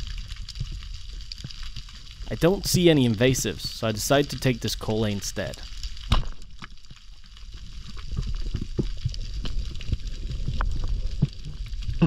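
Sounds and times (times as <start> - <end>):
snapping shrimp crackle: 0.0 - 11.8.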